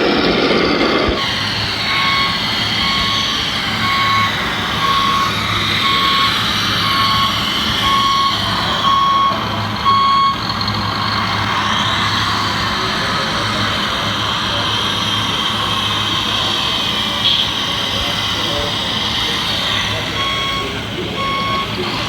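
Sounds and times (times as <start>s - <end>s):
reversing warning beeper: 0.0s - 11.9s, 15.1s - 22.0s
machine whine: 0.0s - 22.0s.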